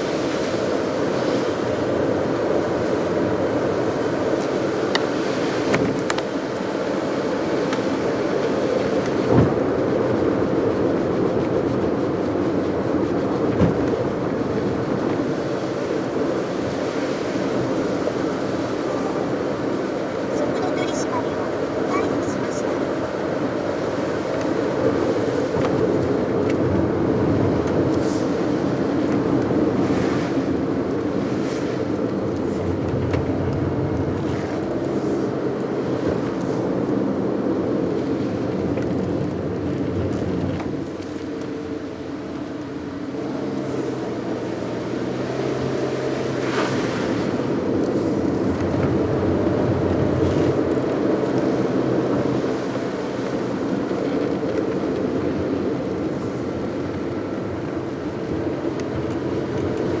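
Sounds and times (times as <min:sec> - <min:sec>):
car engine and tyre noise: 0:00.0 - 1:00.0.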